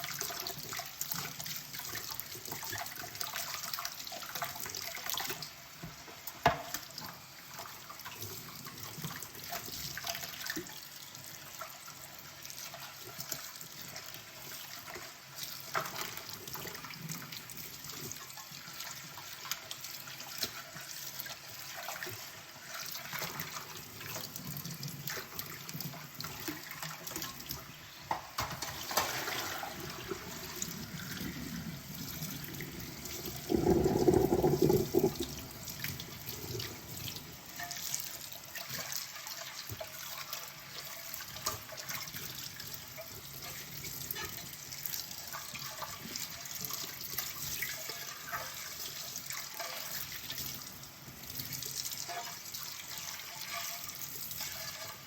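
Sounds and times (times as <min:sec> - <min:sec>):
tap water running and splashing: 0:00.0 - 0:55.0.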